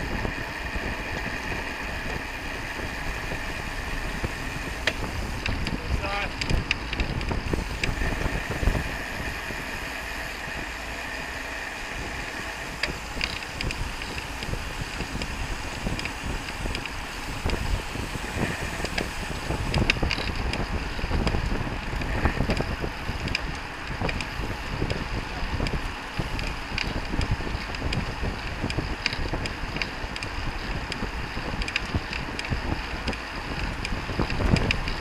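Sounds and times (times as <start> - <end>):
wind rushing over microphone: 0.0 - 35.0
light bicycle clicks: 0.2 - 9.0, 12.1 - 35.0.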